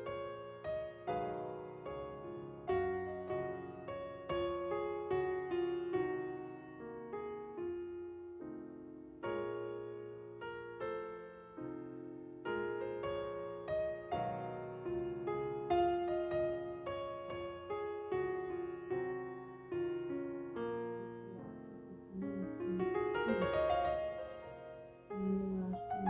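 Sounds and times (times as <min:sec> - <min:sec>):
slow gentle piano music: 0:00.0 - 0:26.0.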